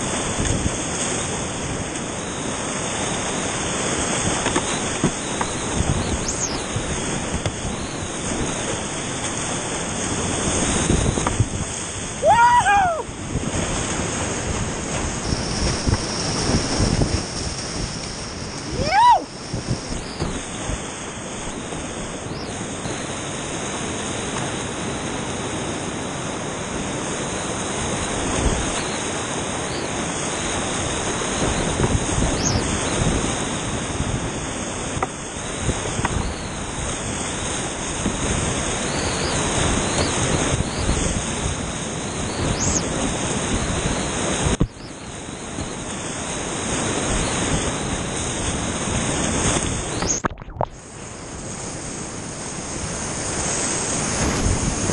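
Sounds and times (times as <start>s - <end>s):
whitewater rapids rushing: 0.0s - 54.9s.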